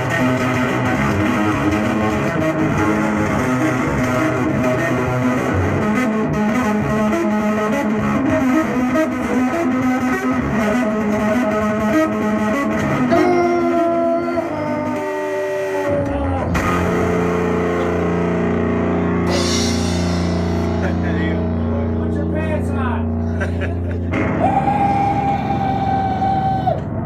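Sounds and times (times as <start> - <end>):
distorted electric guitar: 0.0 - 27.0.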